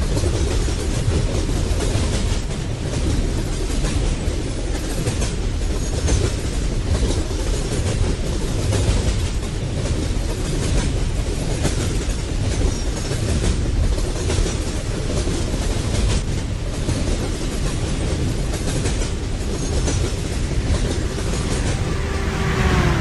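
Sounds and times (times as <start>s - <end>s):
train cars clacking over track: 0.0s - 23.0s
train wheels rumbling on rail: 0.0s - 23.0s.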